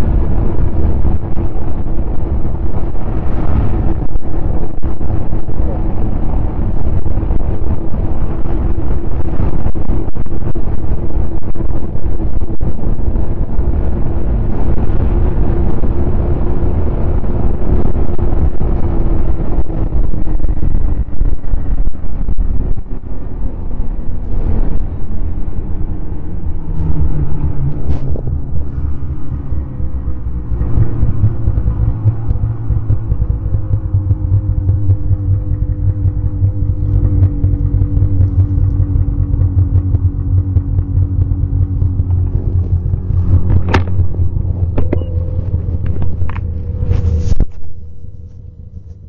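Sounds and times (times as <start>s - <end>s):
snowmobile engine running: 0.0s - 49.0s
wind rumble on microphone: 0.0s - 49.0s.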